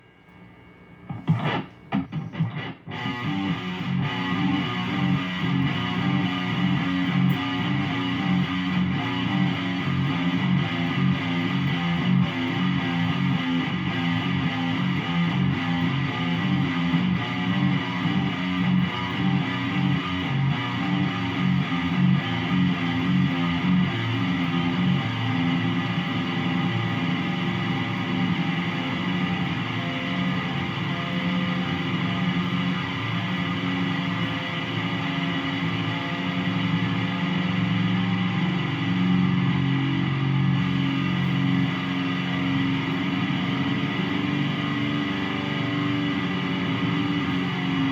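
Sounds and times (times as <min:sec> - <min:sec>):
electric guitar riff: 0:01.1 - 0:47.9.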